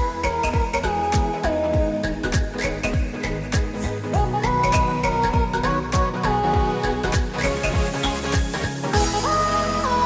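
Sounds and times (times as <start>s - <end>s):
kick drum beat: 0.0s - 9.2s
sliding lead melody: 0.0s - 10.0s.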